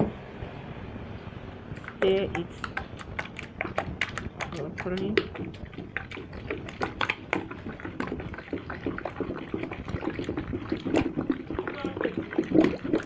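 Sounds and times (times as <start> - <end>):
stirrer knocking container: 1.8 - 13.0
thick soap sloshing: 1.8 - 13.0.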